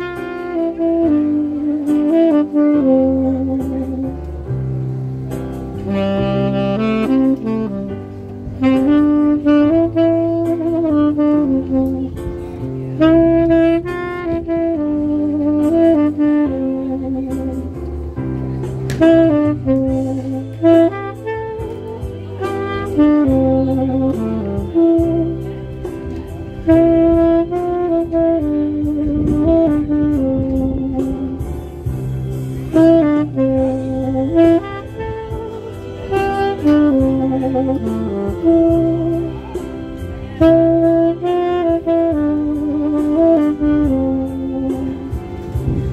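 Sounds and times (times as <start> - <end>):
low bass line: 0.0 - 45.9
tenor saxophone melody: 0.0 - 45.9.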